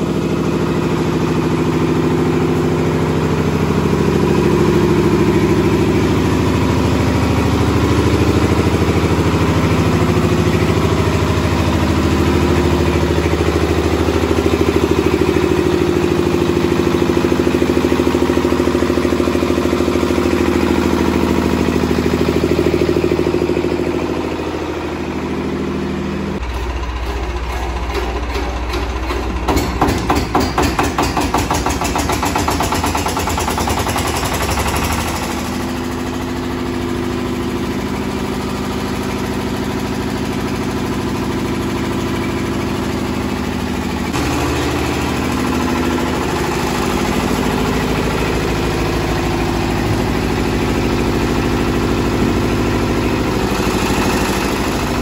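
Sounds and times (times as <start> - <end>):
small diesel engine running: 0.0 - 55.0.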